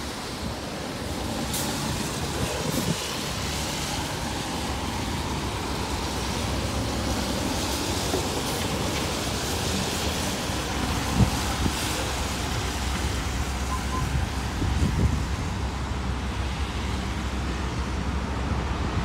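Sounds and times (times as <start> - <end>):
bus engine idling: 0.0 - 18.9
tyres hissing on wet road: 0.0 - 19.0.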